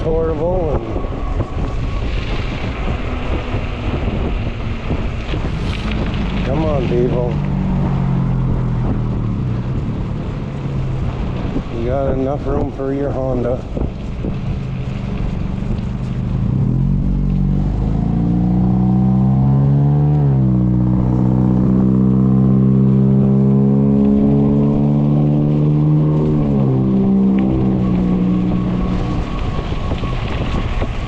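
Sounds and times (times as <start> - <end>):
low wind rumble: 0.0 - 31.0.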